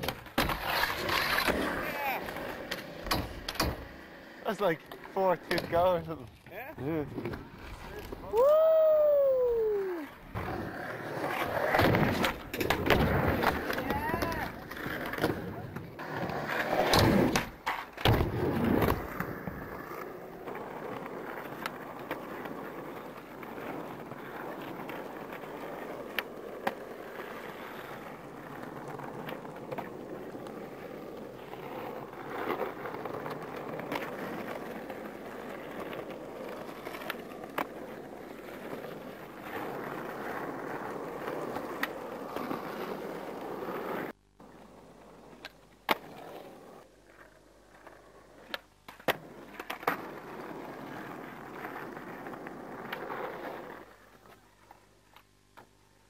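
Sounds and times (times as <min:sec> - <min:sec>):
skateboard clacks: 0:00.0 - 0:08.6, 0:10.3 - 0:55.7
skateboard wheels rolling on concrete: 0:00.0 - 0:56.0.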